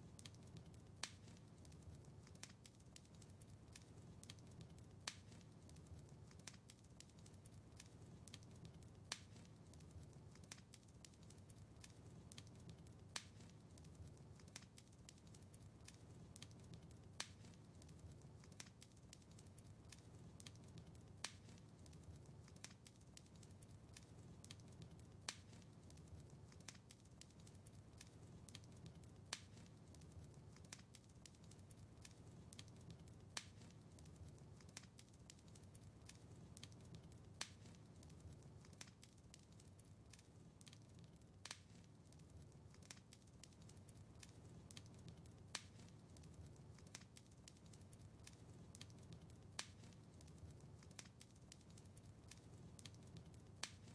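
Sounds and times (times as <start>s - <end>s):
faint crackling wood fire: 0.0s - 53.9s.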